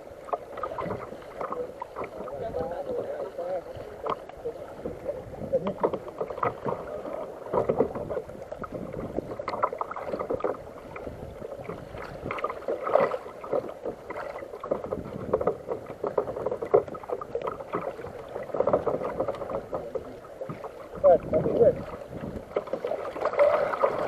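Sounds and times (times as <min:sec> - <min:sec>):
water slapping against kayak hull: 0:00.0 - 0:24.0
small knocks and splashes: 0:00.2 - 0:24.0.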